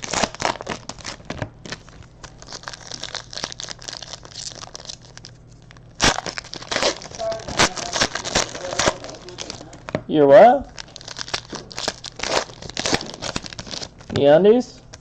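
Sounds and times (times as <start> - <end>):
card wrappers crinkling and tearing: 0.0 - 10.0, 10.6 - 15.0.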